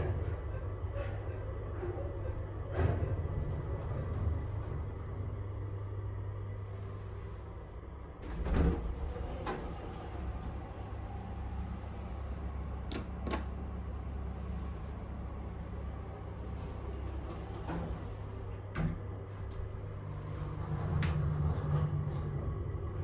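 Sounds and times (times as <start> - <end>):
elevator running with low rumble: 0.0 - 23.0.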